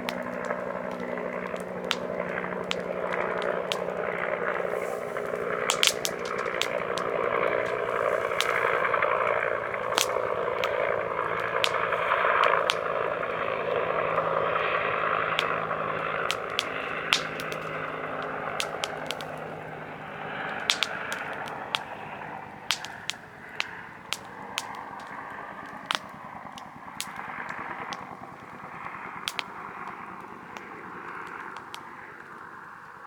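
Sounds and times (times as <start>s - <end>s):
campfire crackling and popping: 0.0s - 33.0s
distant helicopter drone: 0.0s - 33.0s
rush of flame and wind: 0.0s - 33.0s.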